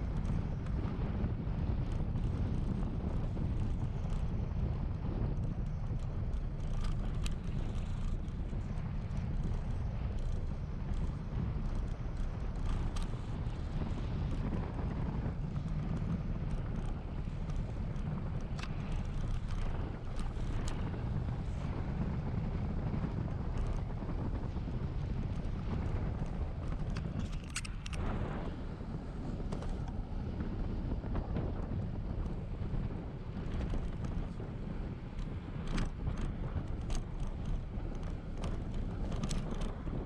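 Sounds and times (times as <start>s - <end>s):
bicycle clicks and rattles: 0.0s - 40.0s
wind buffeting microphone: 0.0s - 40.0s.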